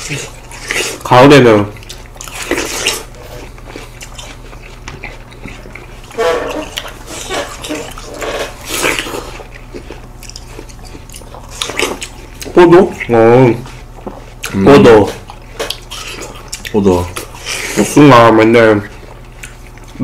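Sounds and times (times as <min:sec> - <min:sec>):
wet bites and chewing: 0:00.0 - 0:17.8, 0:19.0 - 0:20.0.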